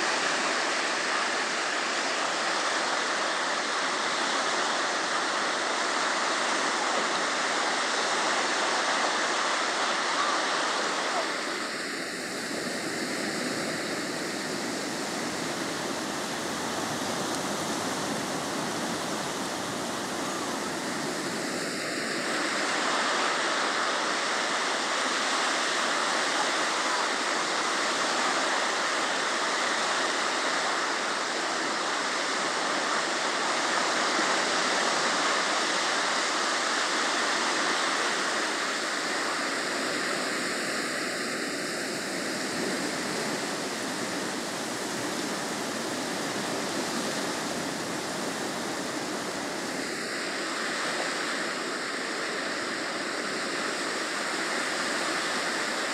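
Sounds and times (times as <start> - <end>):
waves washing in the shallows: 0.0 - 55.9.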